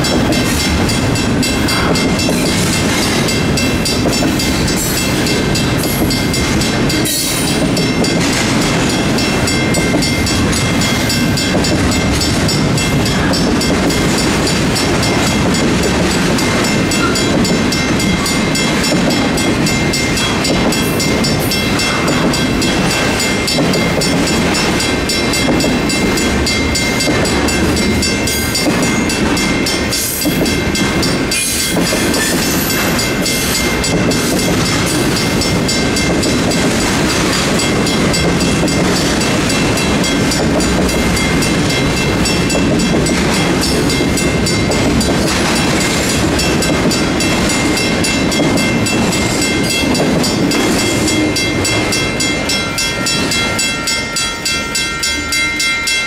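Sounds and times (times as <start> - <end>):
electronic crossing bell: 0.0 - 36.8, 37.4 - 56.0
freight train wheels clacking: 0.0 - 56.0
mechanical crossing bell: 0.0 - 56.0.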